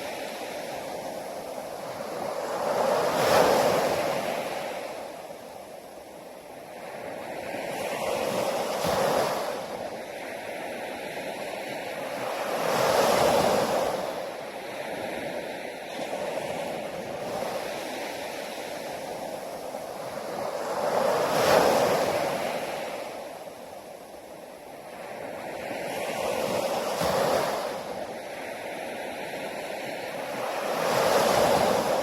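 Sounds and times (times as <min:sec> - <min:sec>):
waves breaking on a beach: 0:00.0 - 0:32.0.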